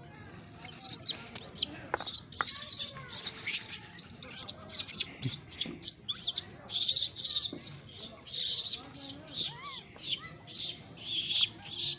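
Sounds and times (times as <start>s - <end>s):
monkey squeaking and chirping: 0.7s - 11.9s.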